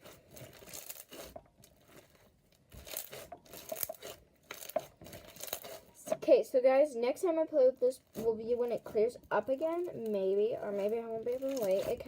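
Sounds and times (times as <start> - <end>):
slime squeezed crackling and popping: 0.0 - 6.1, 7.8 - 12.0.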